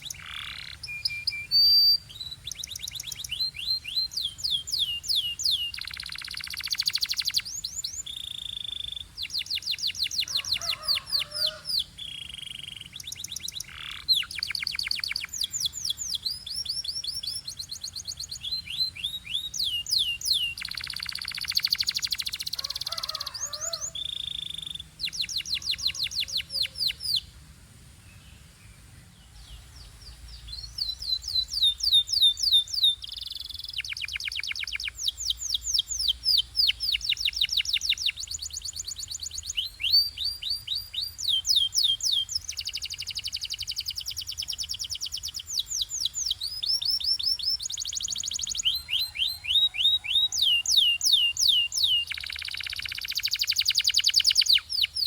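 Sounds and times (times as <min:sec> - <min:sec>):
canary trilling and whistling: 0:00.0 - 0:27.2, 0:31.0 - 0:55.0.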